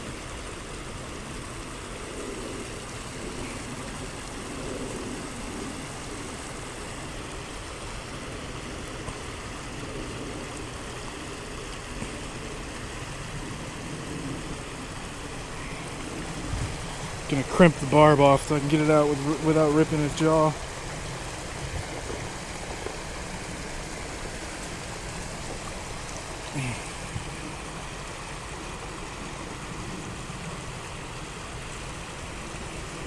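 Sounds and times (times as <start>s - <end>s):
river water pouring over spillway: 0.0s - 33.0s.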